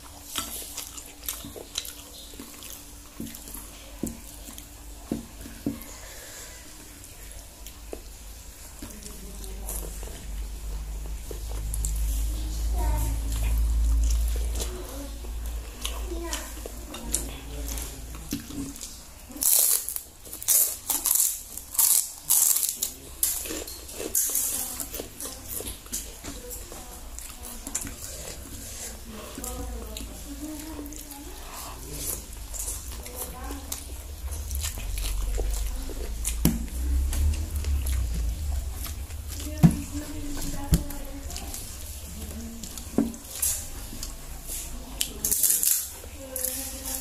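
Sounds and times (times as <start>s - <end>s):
chewing and mouth smacks: 0.0s - 6.3s, 7.0s - 12.4s, 13.2s - 47.0s
faint steady hum: 0.0s - 47.0s.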